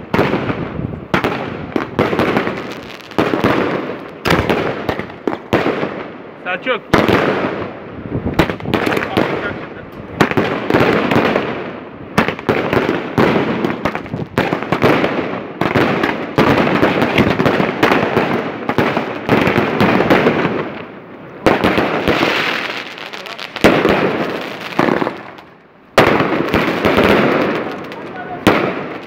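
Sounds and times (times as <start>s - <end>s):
fireworks banging and crackling: 0.0s - 29.0s.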